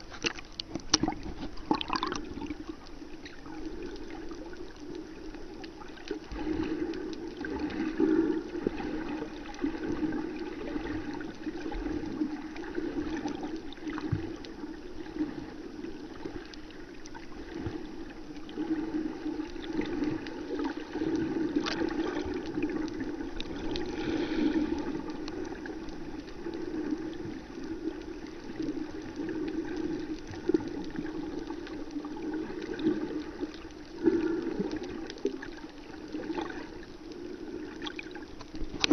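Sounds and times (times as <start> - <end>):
muffled underwater water rush: 0.0 - 38.9.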